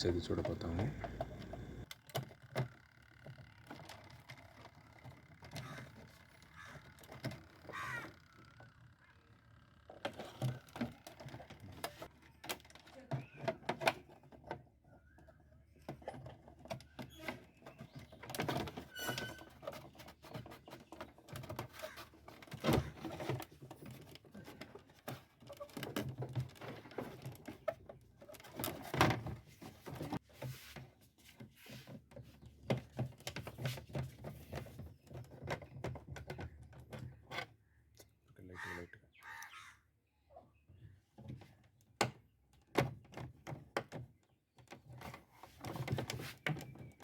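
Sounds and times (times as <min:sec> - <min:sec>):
tools clicking and rattling on plastic: 0:00.0 - 0:08.9, 0:09.9 - 0:30.2, 0:32.2 - 0:37.6, 0:41.2 - 0:47.0.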